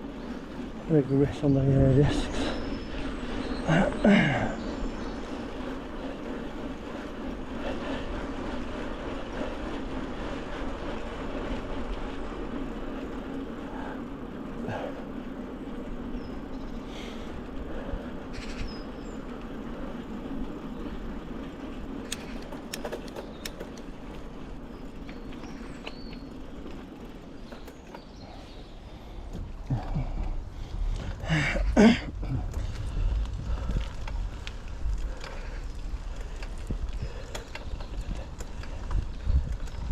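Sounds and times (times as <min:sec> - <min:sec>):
bike clicks and rattles: 0:00.0 - 0:39.9
bike tyres rolling on trail: 0:00.0 - 0:39.9.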